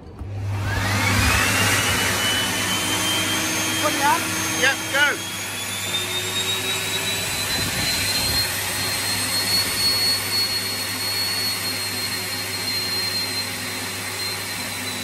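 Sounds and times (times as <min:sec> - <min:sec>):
high motor whine: 0:00.0 - 0:15.0
leaf blower air rush: 0:00.2 - 0:15.0.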